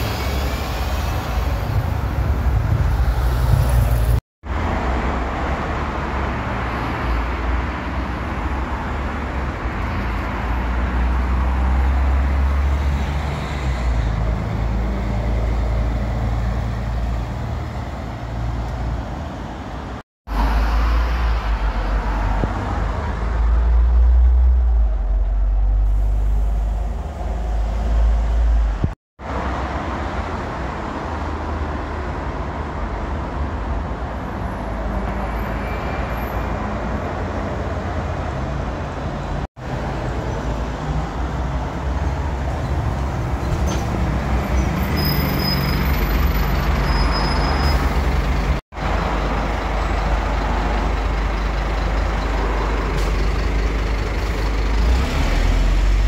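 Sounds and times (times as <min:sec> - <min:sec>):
buses passing in traffic: 0:00.0 - 0:56.0.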